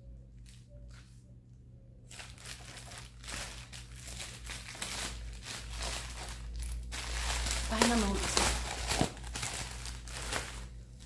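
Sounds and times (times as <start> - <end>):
padded envelope crinkling: 2.1 - 11.0.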